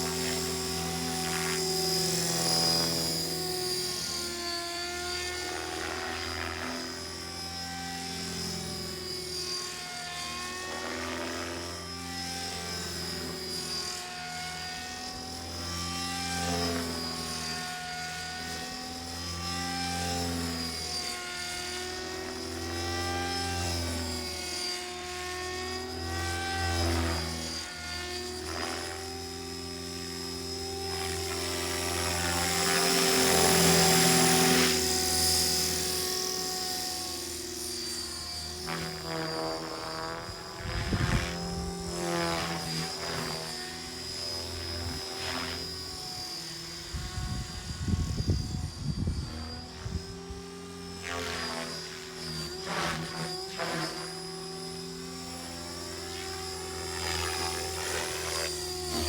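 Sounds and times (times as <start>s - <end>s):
model helicopter flying: 0.0s - 59.0s.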